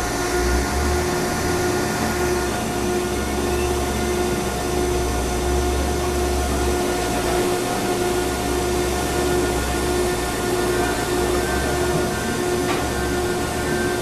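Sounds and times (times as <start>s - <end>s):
baling machine hum: 0.0s - 14.0s
pulsing tone: 0.0s - 14.0s.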